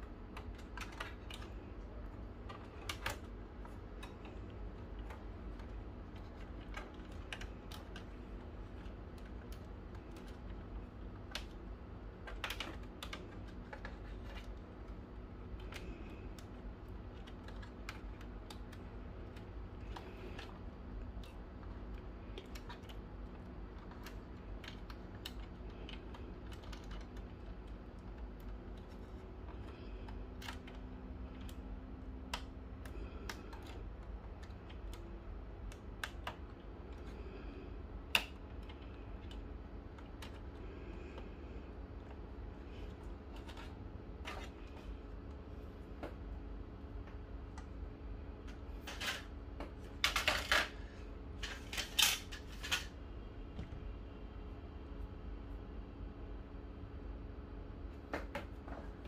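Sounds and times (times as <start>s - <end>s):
small clicks of plastic parts: 0.0s - 53.8s.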